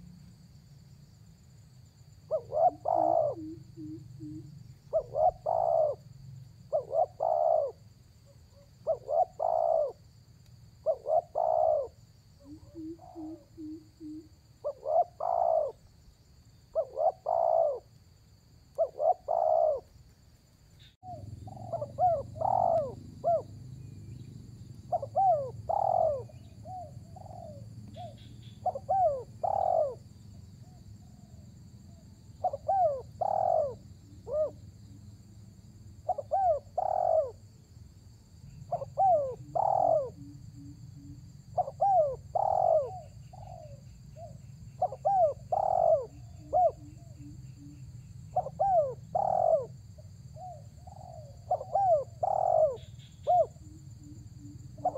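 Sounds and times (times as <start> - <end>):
dove cooing: 2.3 - 10.0, 10.8 - 15.9, 16.6 - 17.9, 18.8 - 19.9, 21.0 - 24.2, 24.9 - 34.6, 36.0 - 37.4, 38.6 - 54.9.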